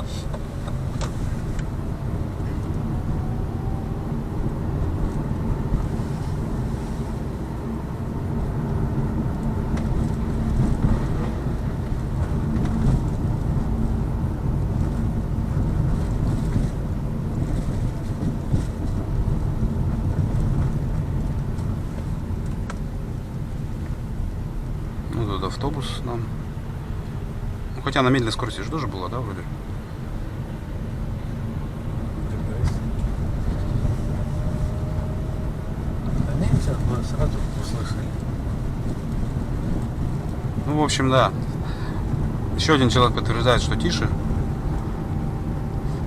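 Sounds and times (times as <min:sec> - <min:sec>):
road and tyre rumble: 0:00.0 - 0:46.0.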